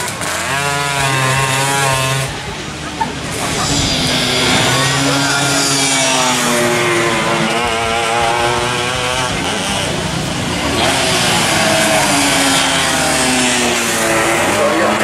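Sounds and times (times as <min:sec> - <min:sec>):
racing motorcycles at high revs: 0:00.0 - 0:15.0.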